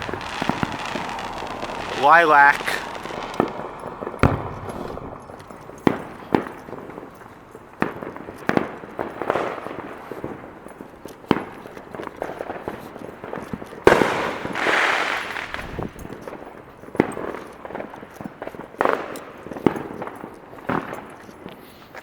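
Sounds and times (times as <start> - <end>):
fireworks bangs: 0.0 - 21.2
fireworks crackling hiss: 0.0 - 21.6.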